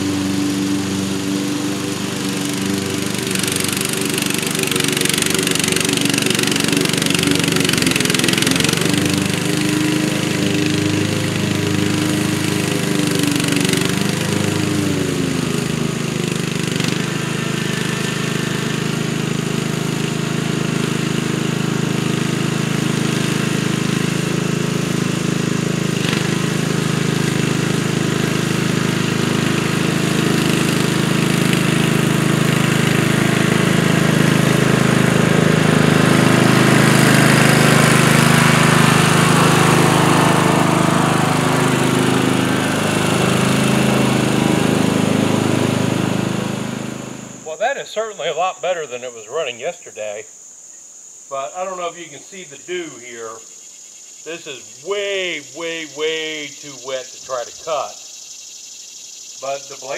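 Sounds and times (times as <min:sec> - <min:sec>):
riding lawn mower engine running: 0:00.0 - 0:47.6, 0:54.0 - 0:59.9.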